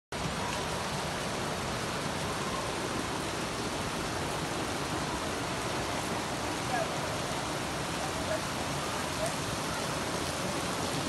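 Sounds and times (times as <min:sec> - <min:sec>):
floodwater running: 0:00.1 - 0:11.0
heavy rain: 0:00.1 - 0:11.0.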